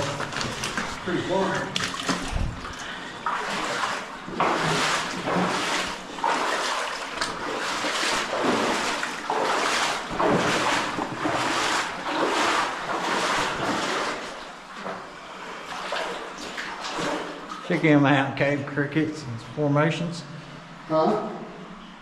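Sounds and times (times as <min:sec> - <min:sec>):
footsteps splashing through water: 0:00.0 - 0:17.8.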